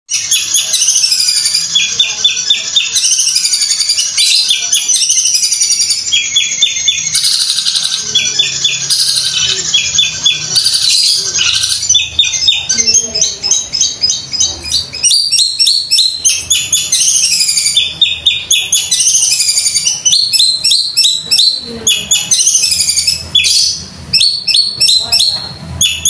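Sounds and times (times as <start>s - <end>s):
bird singing: 0.1s - 26.0s.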